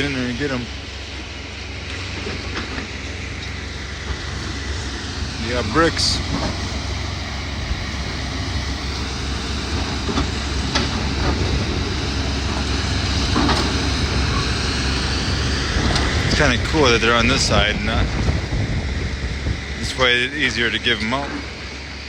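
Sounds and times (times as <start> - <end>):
excavator diesel engines running: 0.0 - 22.0
wind rumbling on microphone: 0.3 - 22.0.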